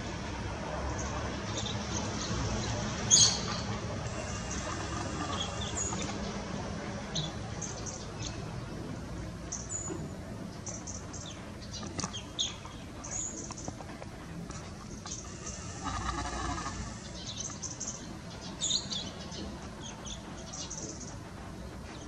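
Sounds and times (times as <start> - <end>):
birds chirping: 0.9 - 22.0.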